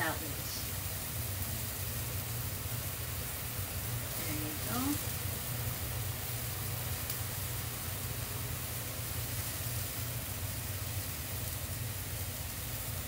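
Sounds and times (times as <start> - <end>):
fish sizzling in a pan: 0.0 - 13.0
low steady hum: 0.0 - 13.0.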